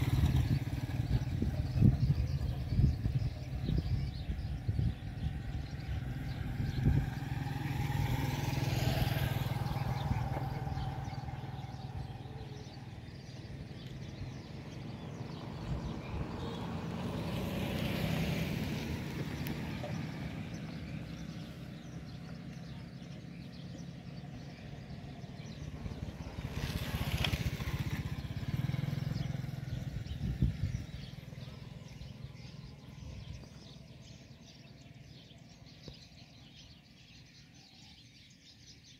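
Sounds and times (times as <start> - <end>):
road vehicles passing by: 0.0 - 38.9.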